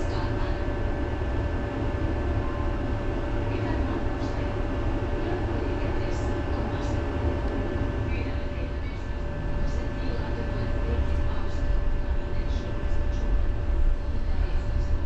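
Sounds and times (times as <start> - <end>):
constant hum: 0.0 - 15.0
tram rumbling: 0.0 - 15.0.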